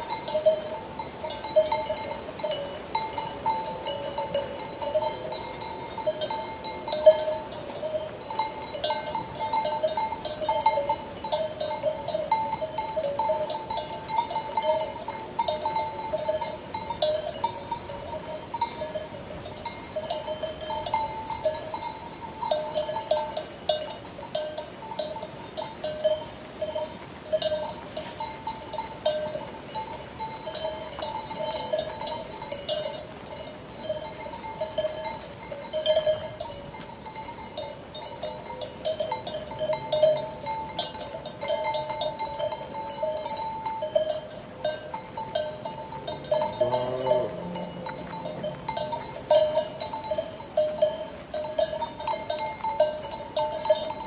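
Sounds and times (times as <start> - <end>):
sheep bell clanking: 0.0 - 54.0.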